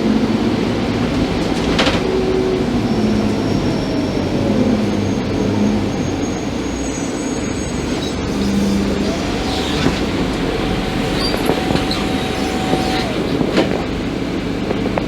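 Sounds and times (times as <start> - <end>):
bus engine rumble: 0.0 - 15.0
thin steady whine: 0.0 - 15.0
rattles and squeaks: 0.1 - 14.4.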